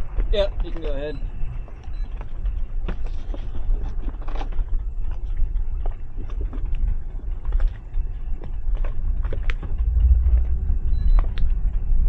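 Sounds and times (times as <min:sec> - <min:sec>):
boat motor and wind rumble: 0:00.0 - 0:12.0.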